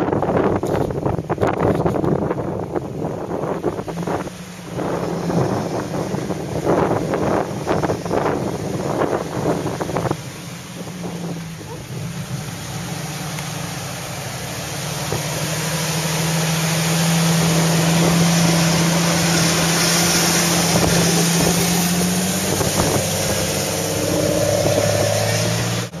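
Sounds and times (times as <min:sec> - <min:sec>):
off-road vehicle engine pulling: 0:00.0 - 0:26.0
second engine: 0:00.0 - 0:26.0
wind buffeting microphone: 0:00.0 - 0:26.0.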